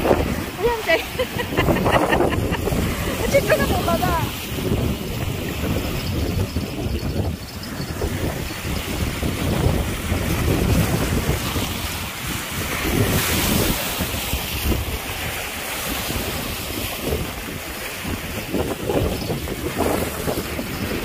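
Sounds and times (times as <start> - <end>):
waves breaking on rocky shore: 0.0 - 21.0
wind buffeting microphone: 0.0 - 21.0.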